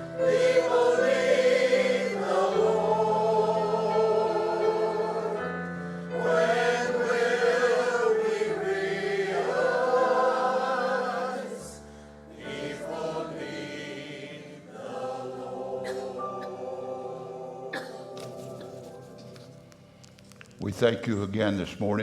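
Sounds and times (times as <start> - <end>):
voices singing gospel song: 0.0 - 19.4.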